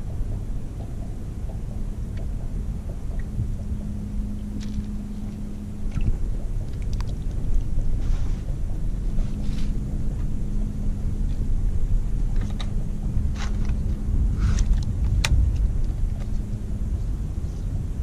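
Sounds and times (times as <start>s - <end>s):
faint steady hum: 0.0s - 18.0s
wind rumbling across microphone: 0.0s - 18.0s.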